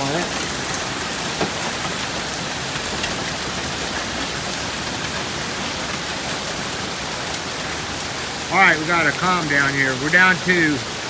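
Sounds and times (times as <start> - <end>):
hailstones ticking: 0.0 - 11.0
rain and hail downpour: 0.0 - 11.0.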